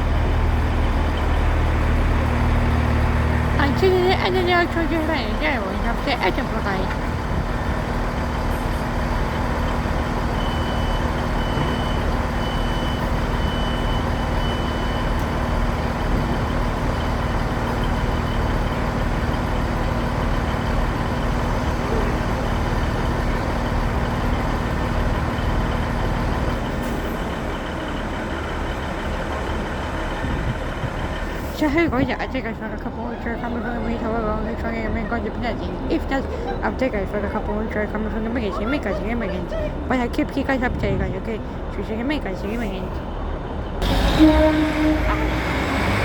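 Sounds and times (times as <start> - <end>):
train engine humming: 0.0 - 46.0.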